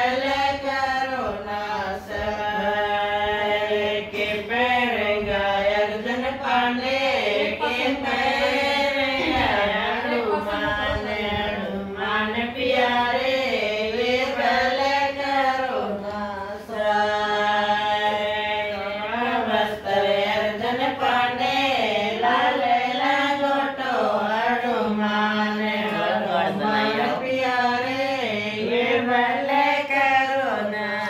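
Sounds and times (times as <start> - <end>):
woman singing unaccompanied: 0.0 - 31.0.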